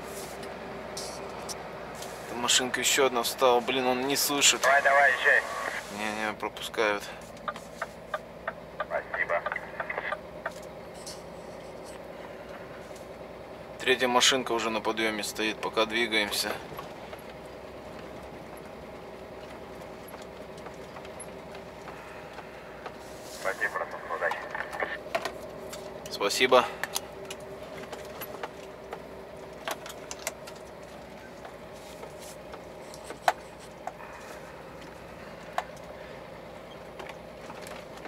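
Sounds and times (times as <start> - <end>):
truck diesel engine drone: 0.0 - 38.0.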